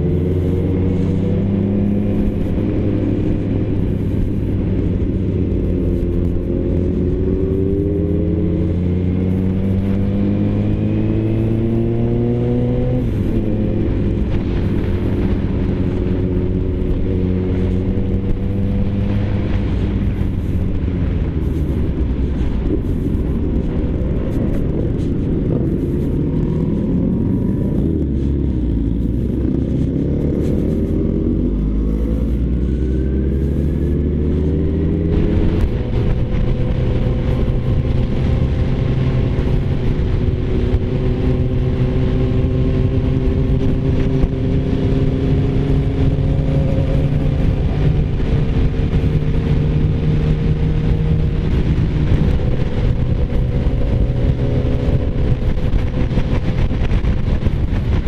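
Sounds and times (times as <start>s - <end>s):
motorcycle engine accelerating: 0.0s - 58.0s
wind rushing past microphone: 0.0s - 58.0s.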